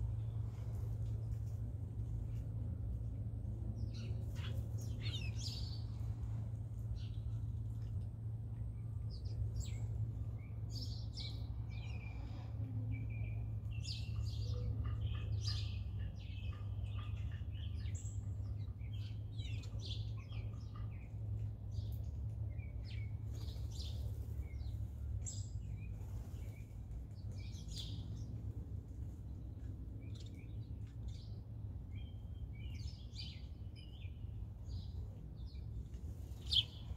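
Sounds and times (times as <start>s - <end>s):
steady low hum: 0.0s - 36.9s
birds chirping: 3.8s - 28.5s, 29.3s - 36.9s.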